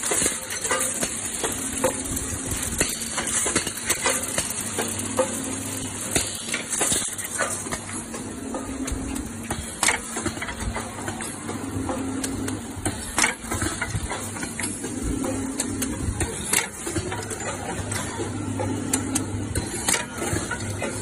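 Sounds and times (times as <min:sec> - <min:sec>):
machine motor hum: 0:00.0 - 0:21.0.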